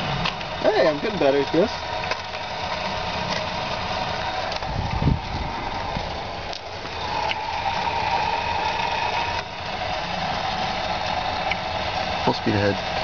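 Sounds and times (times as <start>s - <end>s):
golf cart driving on asphalt: 0.0s - 13.0s
golf cart whine: 0.0s - 13.0s.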